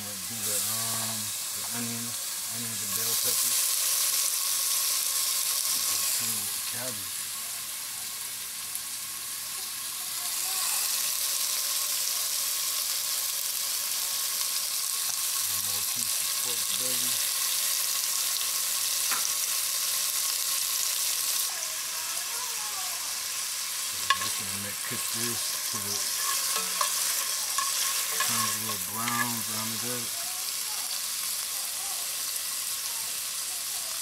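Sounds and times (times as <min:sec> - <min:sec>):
bacon sizzling in a skillet: 0:00.0 - 0:34.0.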